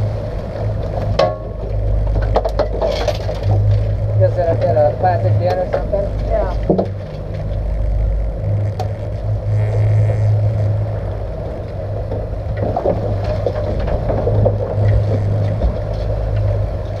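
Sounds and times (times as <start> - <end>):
outboard motors running: 0.0 - 17.0
water rushing along hull: 0.0 - 17.0.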